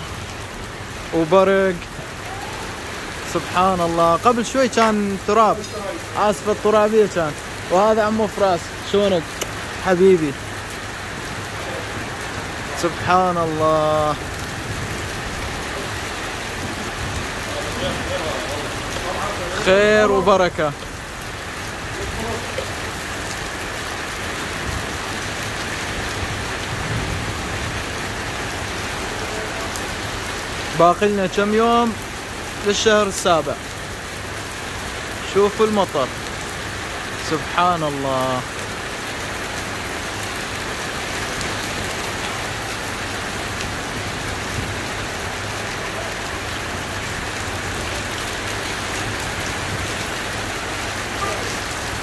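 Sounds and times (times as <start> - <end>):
heavy rain on pavement and cars: 0.0 - 52.0.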